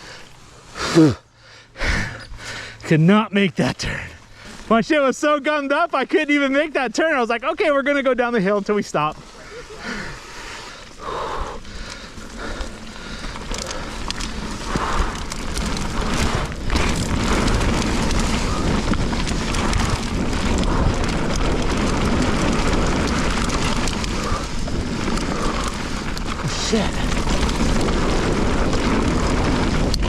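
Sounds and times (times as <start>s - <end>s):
bike rattling over rough trail: 1.8s - 30.0s.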